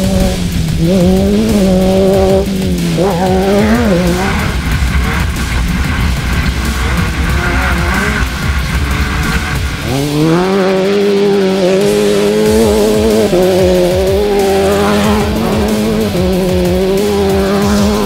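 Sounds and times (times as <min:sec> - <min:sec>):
loud music: 0:00.0 - 0:18.0
race vehicle engine revving: 0:00.0 - 0:18.0.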